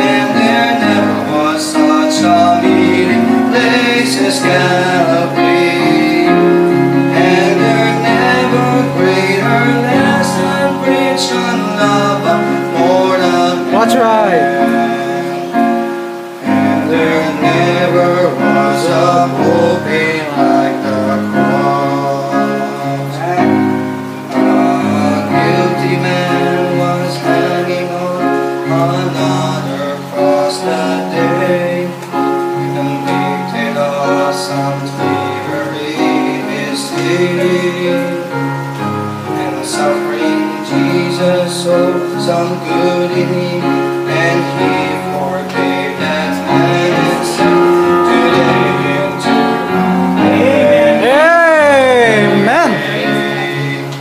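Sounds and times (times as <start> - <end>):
instrumental accompaniment: 0.0 - 54.0
man singing gospel song: 0.0 - 54.0.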